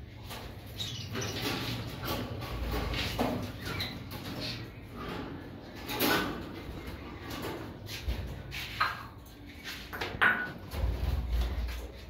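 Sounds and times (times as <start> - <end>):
wire bird cages rattling: 0.0 - 12.0.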